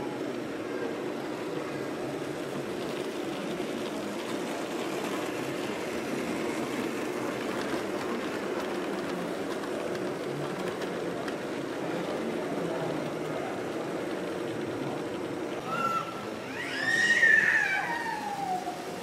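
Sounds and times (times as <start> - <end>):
toy train wheels rattling on track: 1.4 - 19.0.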